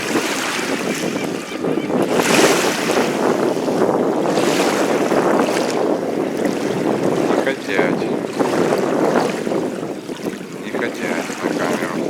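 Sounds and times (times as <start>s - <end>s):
water washing against shore: 0.0s - 12.0s
wind on microphone: 0.0s - 12.0s.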